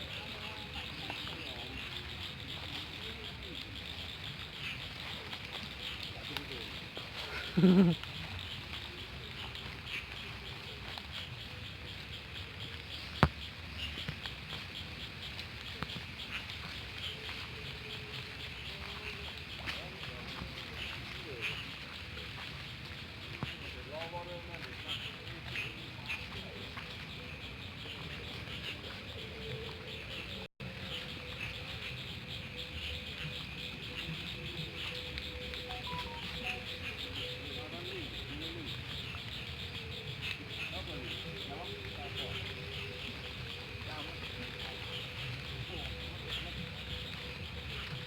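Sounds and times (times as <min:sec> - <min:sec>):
insects chirping: 0:00.0 - 0:48.0
steady low insect hum: 0:00.0 - 0:48.0.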